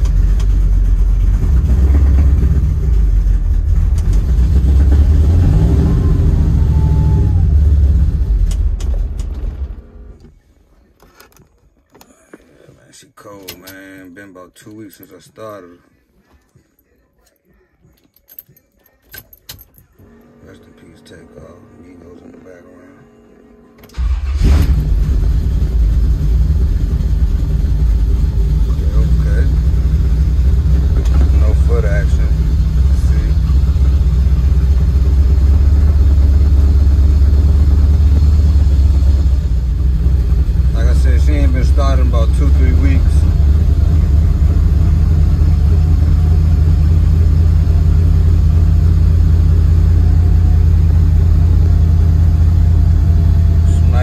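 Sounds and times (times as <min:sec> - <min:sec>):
car engine starting and idling: 0:00.0 - 0:10.5, 0:20.0 - 0:54.0.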